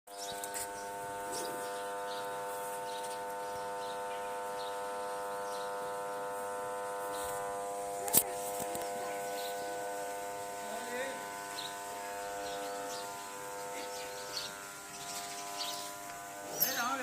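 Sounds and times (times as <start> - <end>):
steady mechanical buzz: 0.1 - 17.0.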